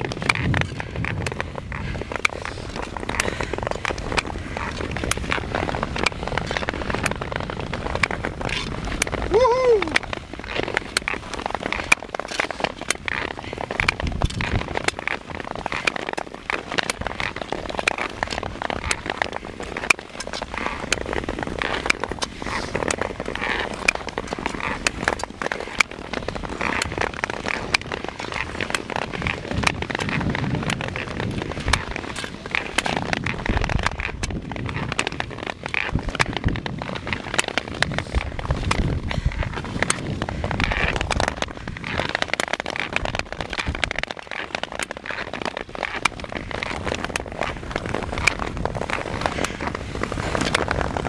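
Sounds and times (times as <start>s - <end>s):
skates scraping on ice: 0.0s - 51.0s.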